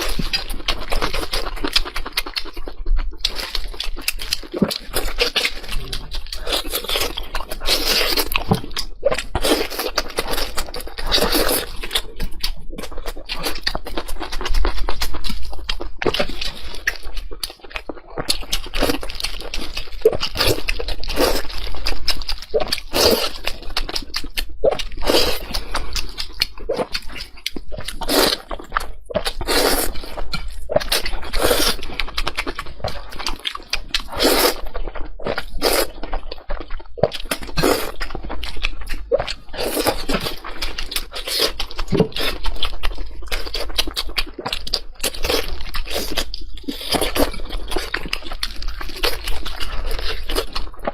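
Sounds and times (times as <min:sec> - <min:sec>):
person chewing crunchy food: 0:00.0 - 0:50.9
wet mouth sounds: 0:00.0 - 0:50.9.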